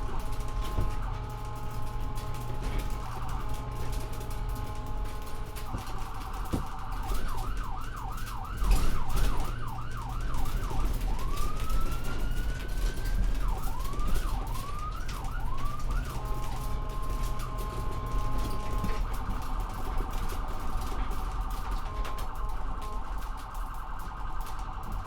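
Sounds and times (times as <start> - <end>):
ambulance siren: 0.0 - 25.0.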